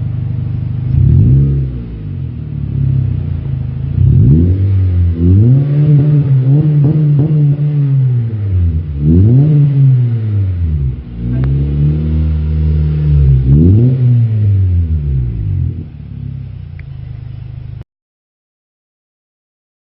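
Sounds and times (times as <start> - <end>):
car engine revving: 0.0 - 17.8.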